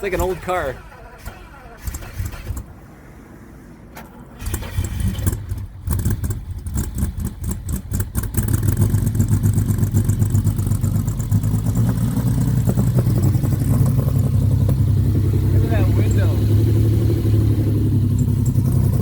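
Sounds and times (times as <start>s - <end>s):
engine starting and rough idling: 0.0s - 19.0s.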